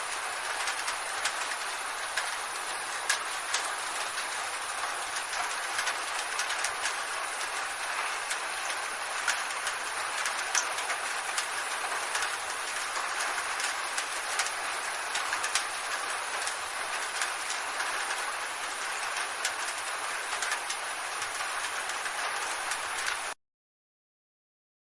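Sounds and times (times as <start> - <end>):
rain hissing: 0.0 - 23.4
raindrops ticking on metal roof: 0.0 - 23.4.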